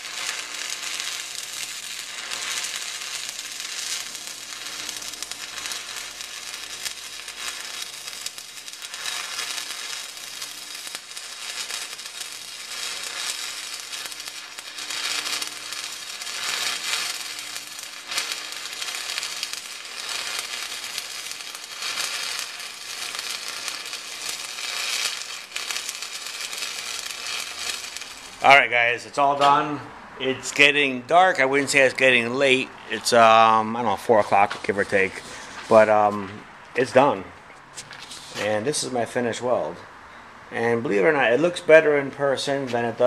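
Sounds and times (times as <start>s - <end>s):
welding arc crackling: 0.0s - 39.1s.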